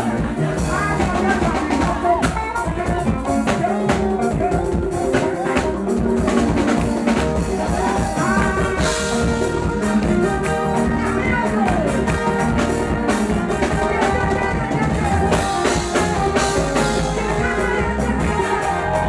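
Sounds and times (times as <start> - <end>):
drum kit: 0.0 - 19.0
live band playing gospel music: 0.0 - 19.0.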